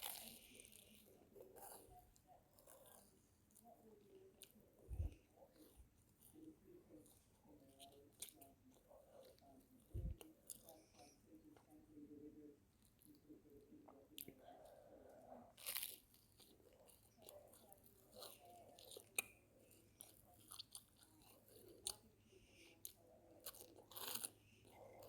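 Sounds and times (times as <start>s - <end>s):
person chewing crunchy bread: 0.0s - 11.1s, 14.2s - 25.0s.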